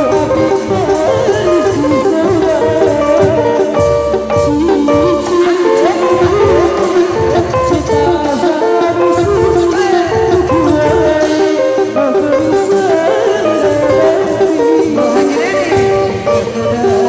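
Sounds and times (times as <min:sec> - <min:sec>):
heavy drum beats: 0:00.0 - 0:17.0
upbeat procession music: 0:00.0 - 0:17.0.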